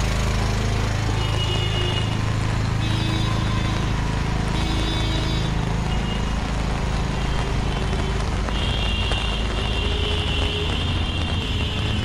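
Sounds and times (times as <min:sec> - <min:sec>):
rain falling: 0:00.0 - 0:12.0
traffic rumble: 0:00.0 - 0:12.0.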